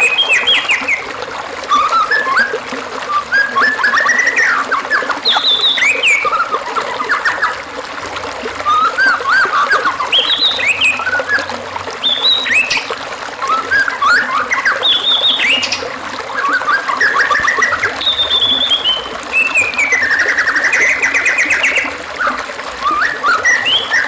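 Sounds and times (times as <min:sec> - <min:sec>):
songbird singing whistled notes: 0:00.0 - 0:01.1, 0:01.7 - 0:07.6, 0:08.6 - 0:24.0.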